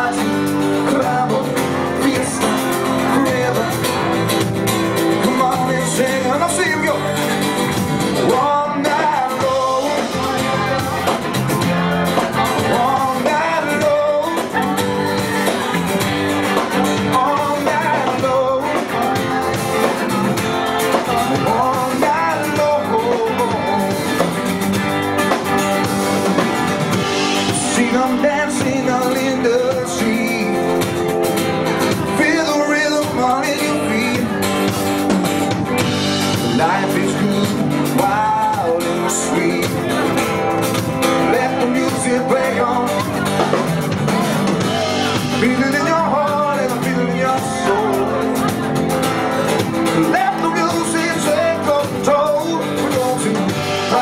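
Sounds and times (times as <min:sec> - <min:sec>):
rock and roll music: 0:00.0 - 0:54.0.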